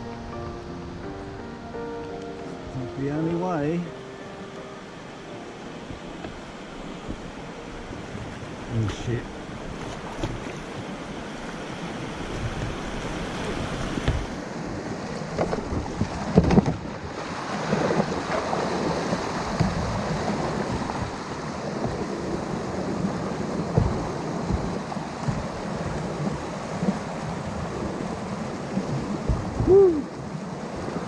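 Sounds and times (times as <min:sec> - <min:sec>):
river water rushing and splashing: 0:00.0 - 0:31.0
wind buffeting microphone: 0:05.8 - 0:31.0.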